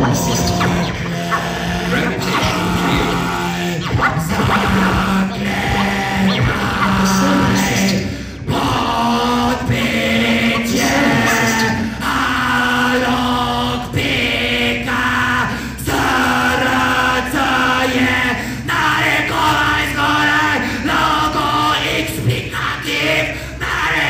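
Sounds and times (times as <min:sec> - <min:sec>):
man singing chant-like notes: 0:00.0 - 0:24.0.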